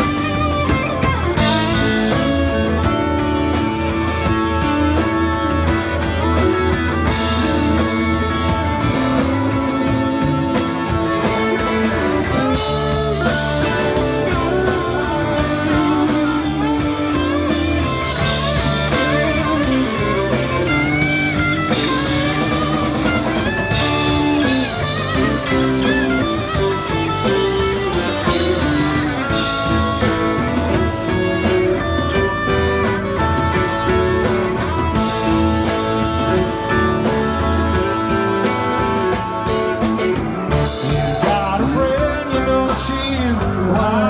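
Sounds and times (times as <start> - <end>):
lead guitar bending notes: 0.0 - 44.0
rock band playing: 0.0 - 44.0.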